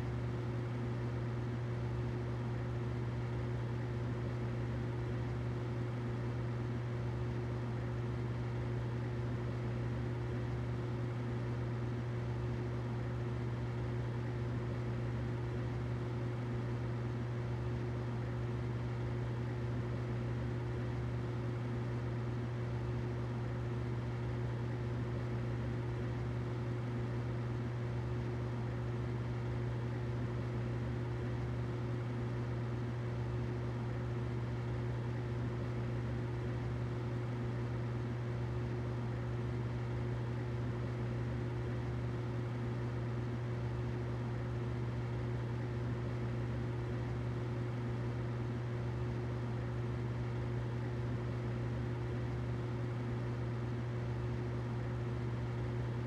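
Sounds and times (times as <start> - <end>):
humidifier low hum: 0.0 - 56.0.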